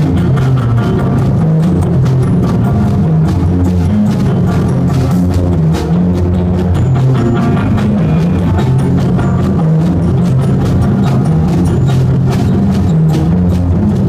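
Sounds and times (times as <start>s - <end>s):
drum kit played with sticks: 0.0s - 14.0s
electric guitar line: 0.0s - 14.0s.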